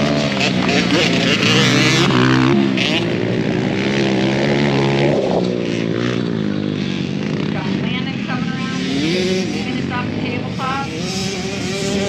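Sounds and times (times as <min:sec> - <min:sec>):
small atv engines running hard: 0:00.0 - 0:12.0.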